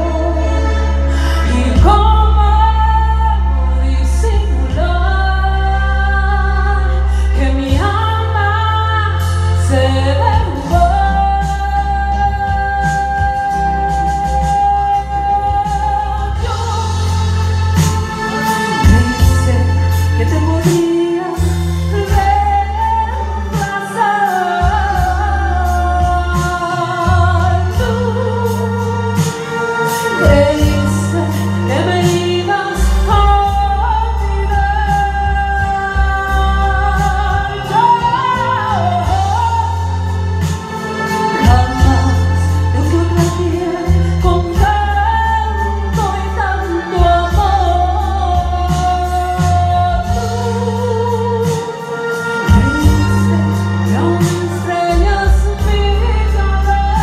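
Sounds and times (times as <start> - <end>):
instrumental music with heavy bass: 0.0 - 57.0
woman singing into microphone: 0.0 - 57.0.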